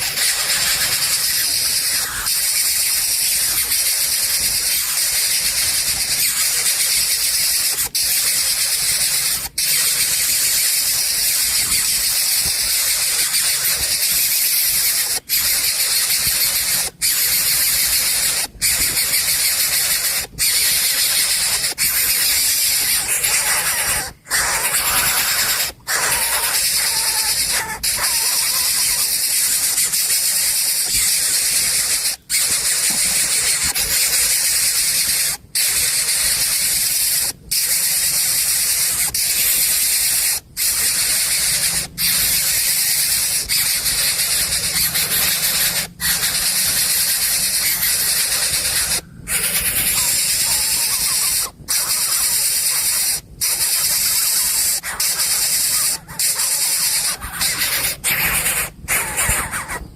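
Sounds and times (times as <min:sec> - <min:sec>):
bird chick hissing begging call: 0:00.0 - 0:59.9.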